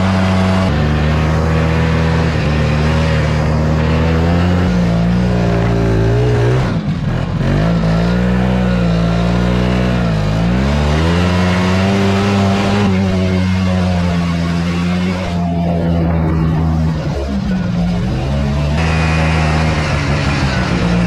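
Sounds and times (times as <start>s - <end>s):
snowmobile engine revving: 0.0s - 21.0s.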